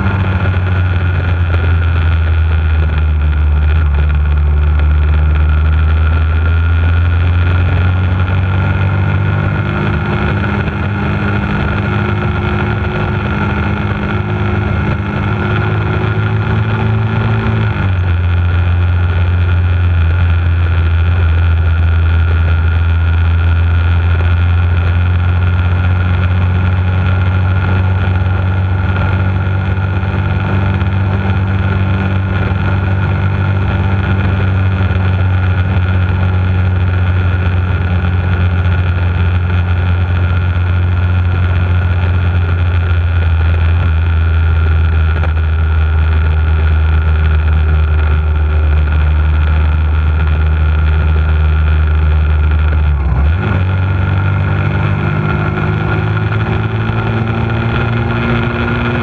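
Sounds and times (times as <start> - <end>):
motorcycle engine droning: 0.0 - 59.0.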